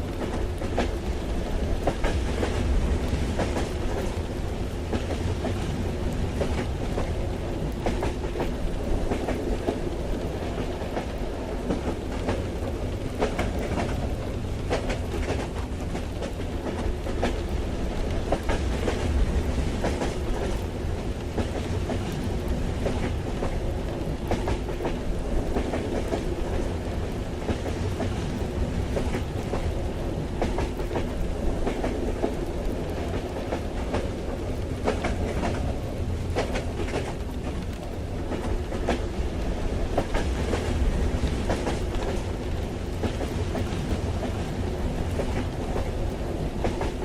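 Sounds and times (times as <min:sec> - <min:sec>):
train rumble on rails: 0:00.0 - 0:47.0.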